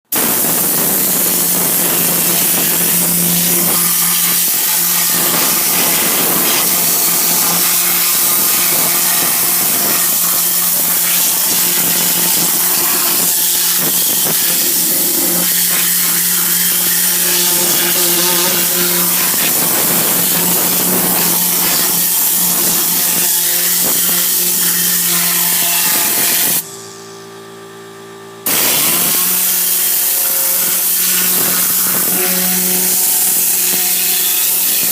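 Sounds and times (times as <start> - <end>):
compressed air hissing: 0.1 - 27.1, 28.5 - 34.9
low steady hum: 0.7 - 29.5.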